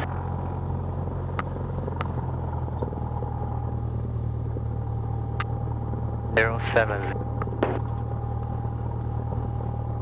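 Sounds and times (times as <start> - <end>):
airplane engine droning: 0.0 - 10.0
faint steady whine: 0.0 - 10.0.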